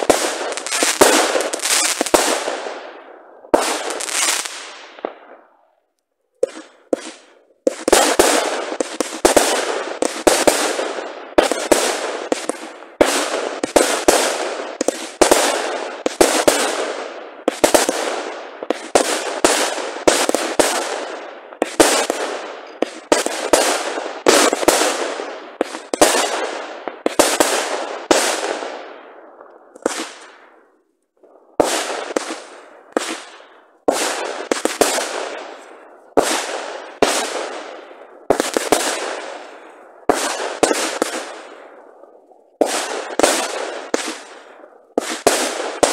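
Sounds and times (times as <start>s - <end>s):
fireworks bangs: 0.0s - 45.9s.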